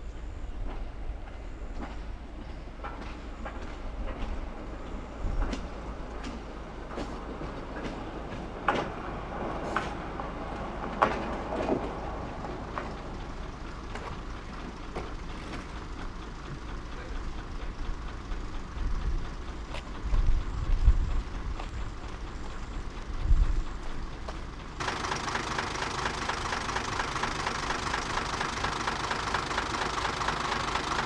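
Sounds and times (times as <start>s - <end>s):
rail bus wheels clicking over joints: 0.0s - 31.0s.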